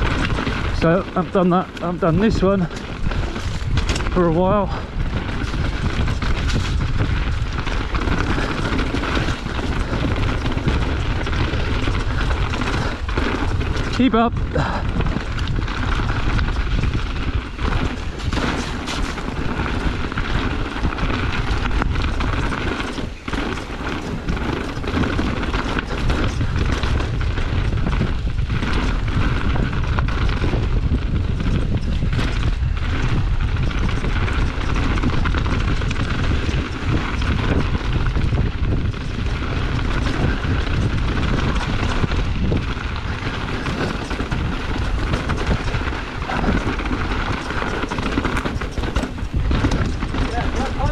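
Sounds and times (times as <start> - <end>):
bike tyres rumbling over rough ground: 0.0 - 50.9
wind buffeting microphone: 0.0 - 50.9.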